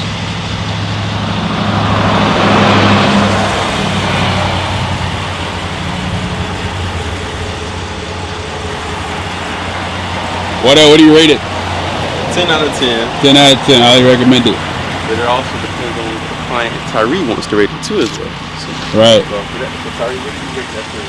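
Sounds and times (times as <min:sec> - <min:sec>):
engine humming: 0:00.0 - 0:21.0
vehicle rushing past: 0:00.0 - 0:21.0.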